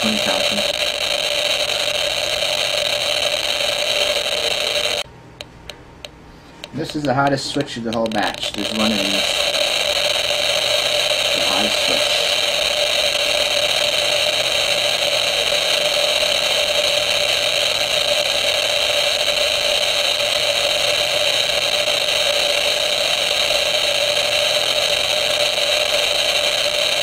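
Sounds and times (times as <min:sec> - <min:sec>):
radiation monitor clicking buzz: 0:00.0 - 0:27.0.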